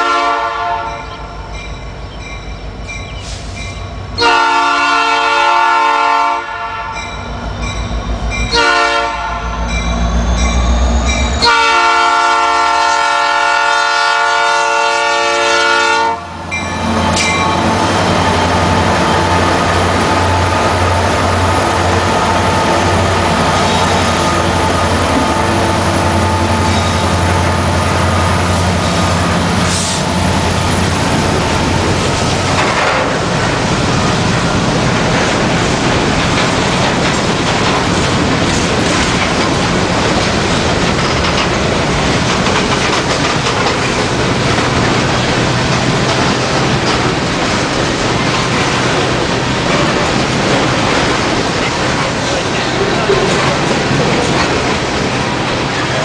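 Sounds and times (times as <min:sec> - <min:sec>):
train cars rolling past: 0:00.0 - 0:56.0
locomotive engine drone: 0:06.6 - 0:56.0.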